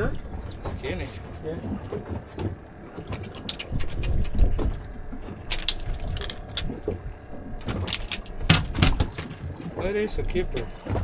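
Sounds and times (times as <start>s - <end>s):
low steady rumble: 0.0s - 11.0s
fishing gear clicking and rattling: 1.9s - 11.0s.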